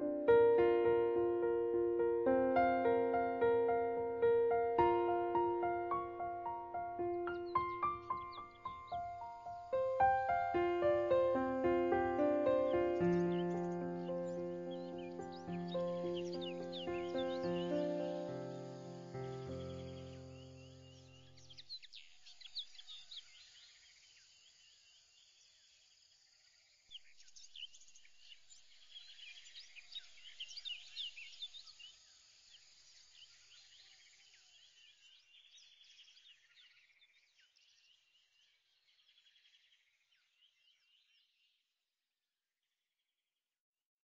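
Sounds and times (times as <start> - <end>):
faint birdsong chirps: 0.0 - 41.7.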